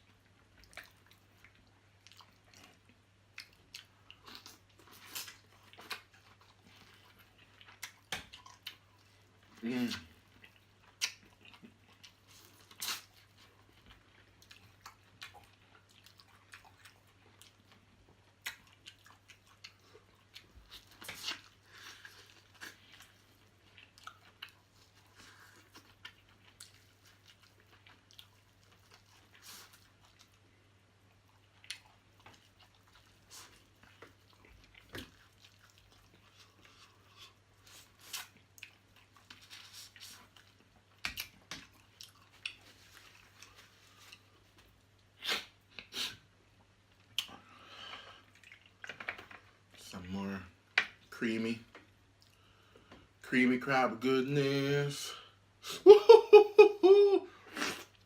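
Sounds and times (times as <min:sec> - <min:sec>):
chewing and crunching crab shells: 0:00.0 - 0:45.9, 0:46.9 - 0:49.8.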